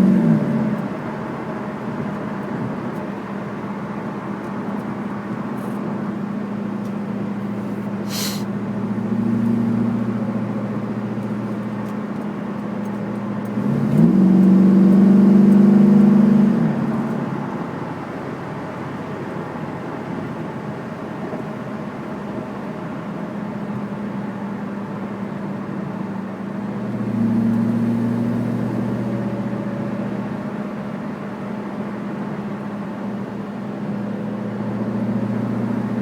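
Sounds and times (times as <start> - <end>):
car running with low hum: 0.0 - 36.0.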